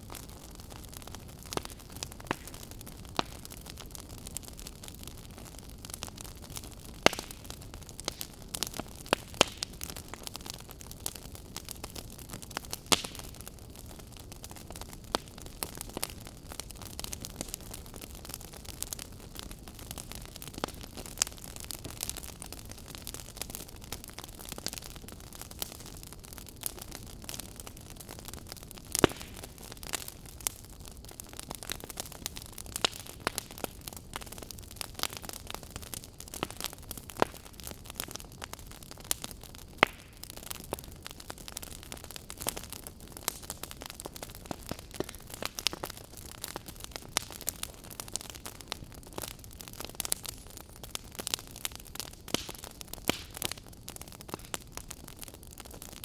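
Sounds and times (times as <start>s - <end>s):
burning logs popping: 0.0s - 56.0s
wood fire crackling: 0.0s - 56.0s.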